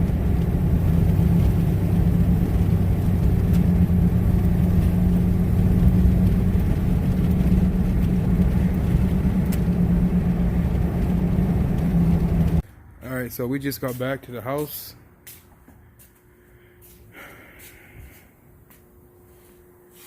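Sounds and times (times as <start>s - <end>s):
engine and road noise drone: 0.0s - 20.0s.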